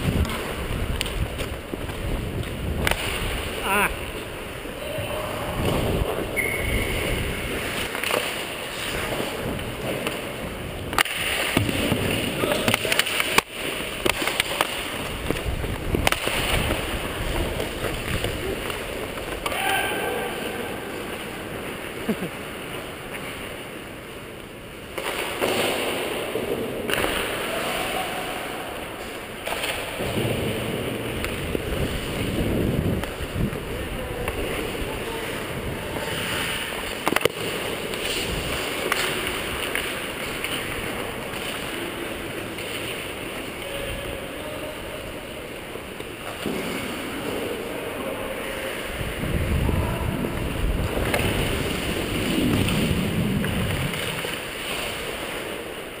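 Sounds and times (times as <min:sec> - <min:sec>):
skate blades scraping ice: 0:00.0 - 0:04.8, 0:05.6 - 0:47.7, 0:50.1 - 0:56.0.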